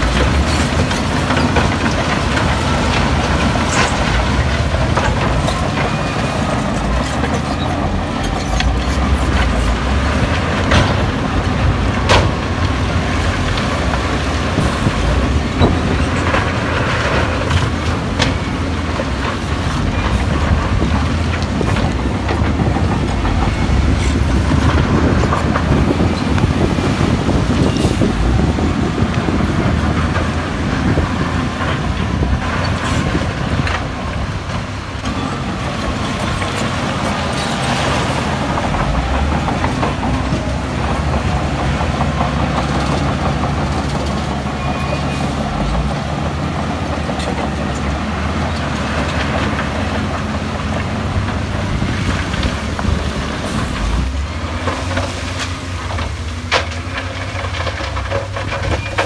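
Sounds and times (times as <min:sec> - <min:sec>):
heavy diesel engine rumble: 0:00.0 - 0:59.0.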